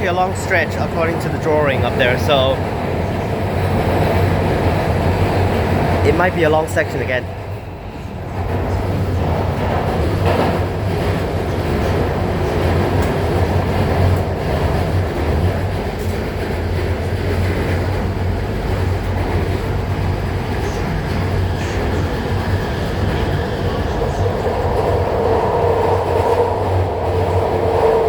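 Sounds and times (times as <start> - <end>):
train running through tunnel: 0.0 - 28.0.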